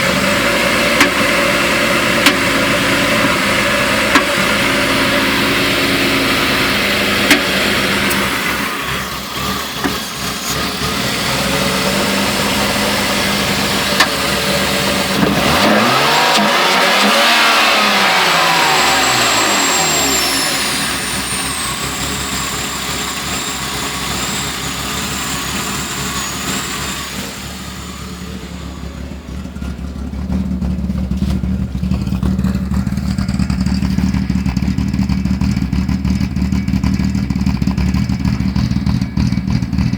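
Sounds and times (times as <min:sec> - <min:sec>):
car engine revving and idling: 0:00.0 - 0:39.9.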